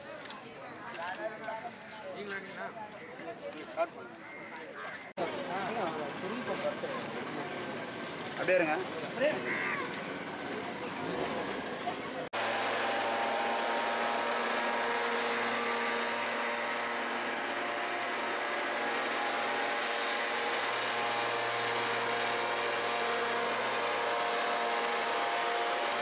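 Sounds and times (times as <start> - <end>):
small engine running steadily: 5.1 - 26.0.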